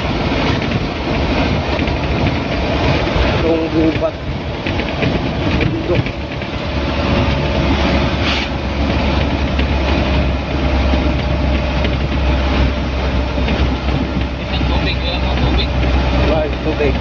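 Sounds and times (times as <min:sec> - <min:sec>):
low engine drone: 0:00.0 - 0:17.0
road and tyre noise: 0:00.0 - 0:17.0.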